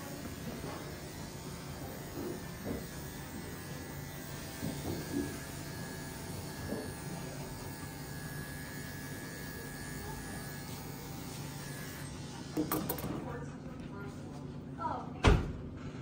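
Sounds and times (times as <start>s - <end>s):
electric dog clippers humming: 0.0s - 13.2s.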